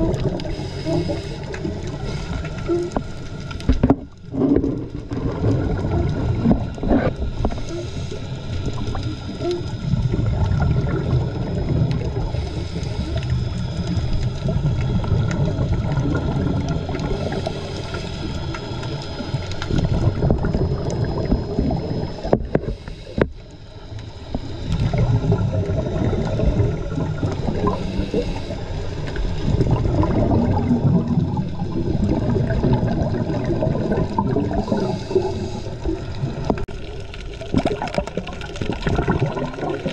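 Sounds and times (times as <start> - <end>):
underwater regulator bubbling: 0.0 - 39.9.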